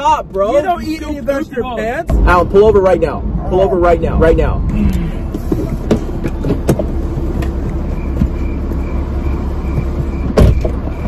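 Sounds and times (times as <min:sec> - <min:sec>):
car rumble on the move: 0:00.0 - 0:11.0.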